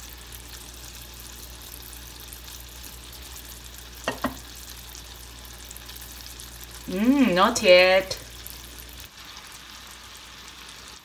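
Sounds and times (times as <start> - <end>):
syrup boiling in a pot: 0.0 - 11.0.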